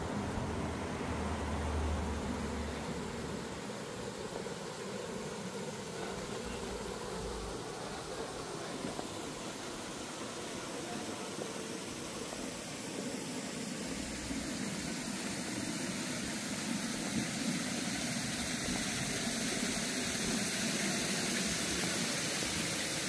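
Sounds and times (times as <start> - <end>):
street background rumble and hiss: 0.0 - 23.0.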